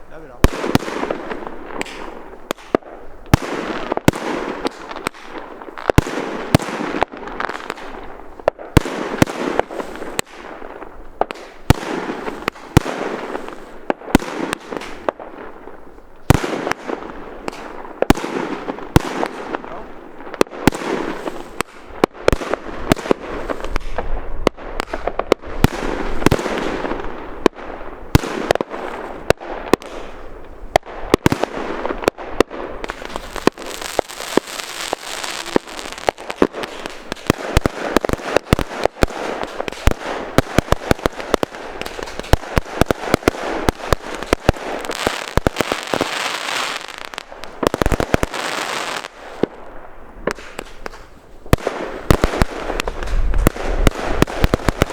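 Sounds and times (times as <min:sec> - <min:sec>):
fireworks crackling: 0:00.0 - 0:54.9
fireworks bangs and pops: 0:00.1 - 0:54.9.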